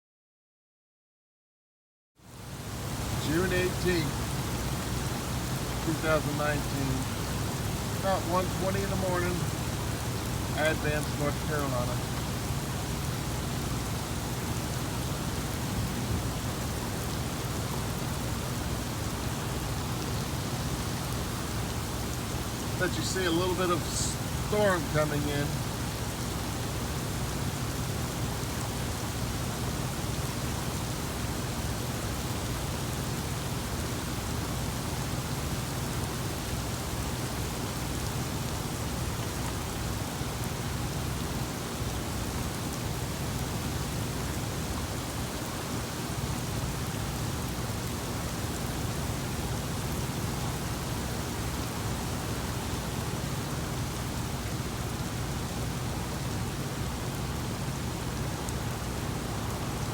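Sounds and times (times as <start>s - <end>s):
steady rain hiss: 2.2s - 59.9s.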